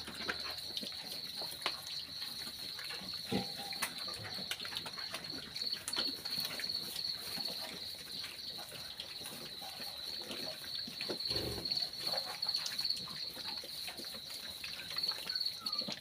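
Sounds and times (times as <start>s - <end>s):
insect chirr: 0.0s - 16.0s
piglets chomping and snuffling: 0.0s - 16.0s.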